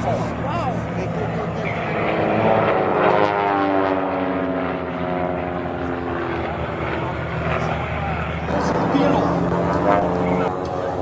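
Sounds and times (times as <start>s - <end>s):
propeller aircraft flying low past: 0.0s - 11.0s.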